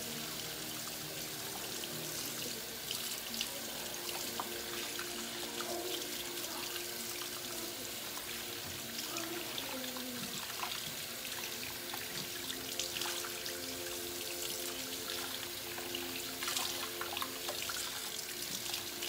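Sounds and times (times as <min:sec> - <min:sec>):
faucet running into sink: 0:00.0 - 0:19.0
hands being washed: 0:00.0 - 0:19.0.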